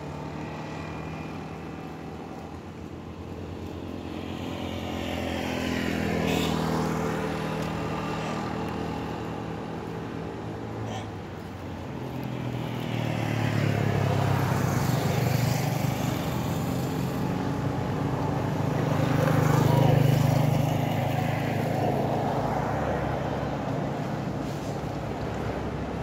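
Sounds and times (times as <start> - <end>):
motor vehicles passing: 0.0 - 26.0.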